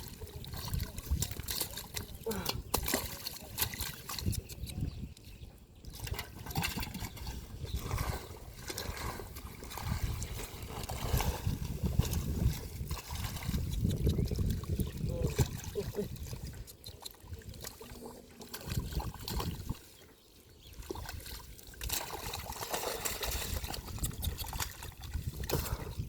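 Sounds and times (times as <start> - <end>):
water splashes: 0.0 - 4.8, 5.9 - 26.0
crackling rustles of water plants: 0.0 - 26.0
river water sloshing and trickling: 0.0 - 26.0.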